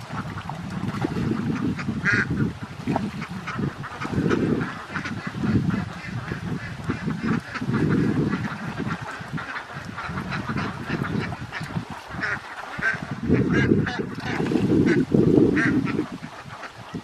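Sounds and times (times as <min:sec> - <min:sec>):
ducks quacking: 0:00.1 - 0:17.0.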